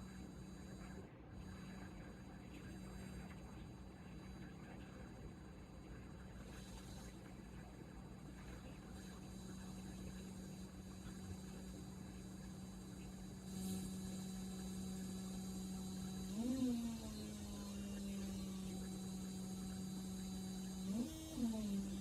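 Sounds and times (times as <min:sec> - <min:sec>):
synthesizer low buzzing drone: 0:00.0 - 0:22.0.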